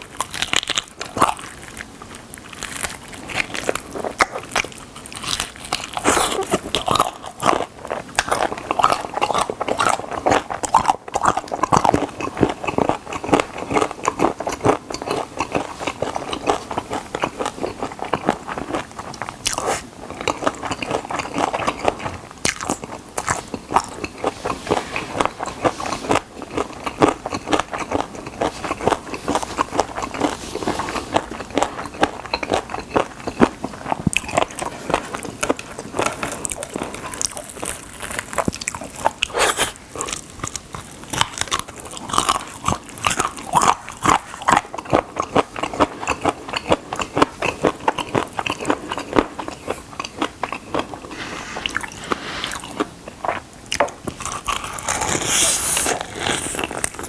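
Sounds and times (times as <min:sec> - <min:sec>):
crunching fried chicken: 0:00.0 - 0:57.0
wet chewing: 0:00.0 - 0:57.0.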